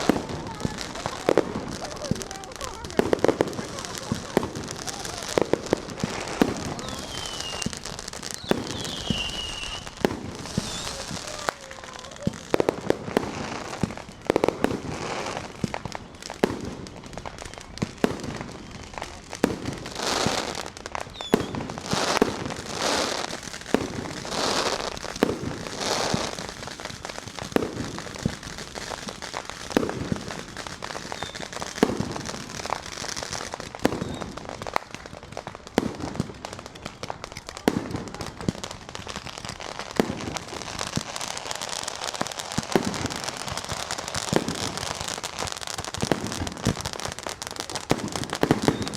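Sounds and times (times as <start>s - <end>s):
firecrackers crackling: 0.0s - 48.9s
firework bangs: 0.0s - 48.9s.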